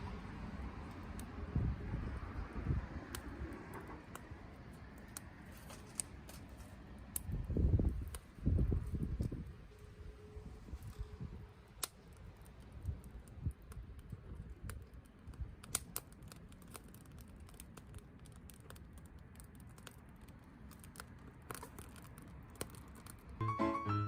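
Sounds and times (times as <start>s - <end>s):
campfire crackling and popping: 0.2s - 9.9s, 10.6s - 24.0s.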